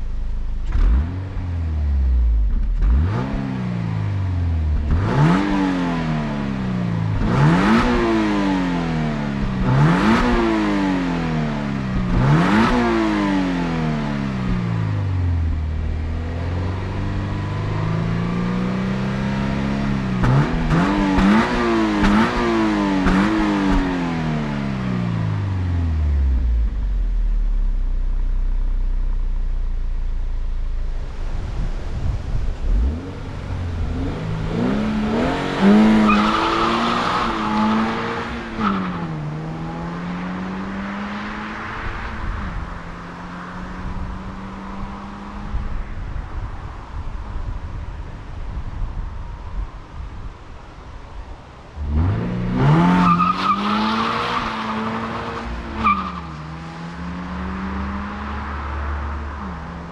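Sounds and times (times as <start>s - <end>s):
car engine accelerating hard: 0.0s - 30.2s, 30.8s - 46.4s, 51.6s - 59.9s.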